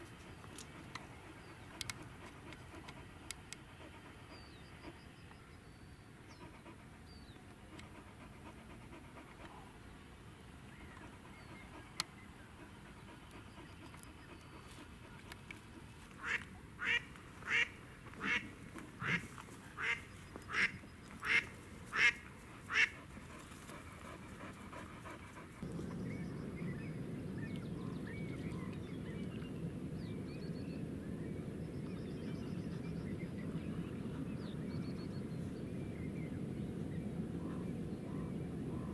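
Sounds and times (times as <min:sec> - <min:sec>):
low rushing noise: 0:05.3 - 0:38.9.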